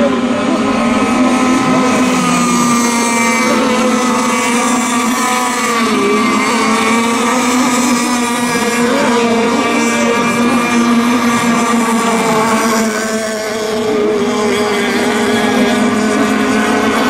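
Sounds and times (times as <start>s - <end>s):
model boat engines whining: 0.0s - 17.0s.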